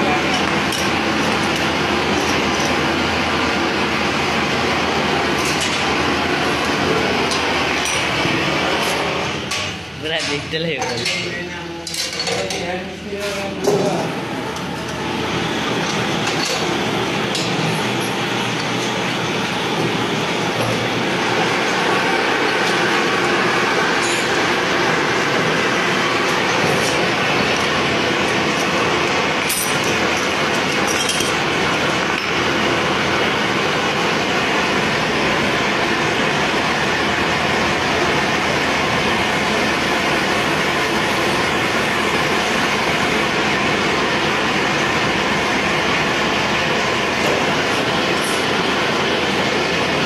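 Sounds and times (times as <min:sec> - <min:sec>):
machine or fan rushing: 0:00.0 - 0:10.1, 0:13.1 - 0:50.0.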